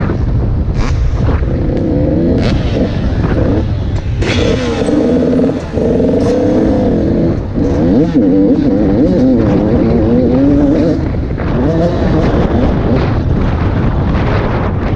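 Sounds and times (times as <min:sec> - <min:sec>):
motocross bike engine revving: 0:00.8 - 0:13.7.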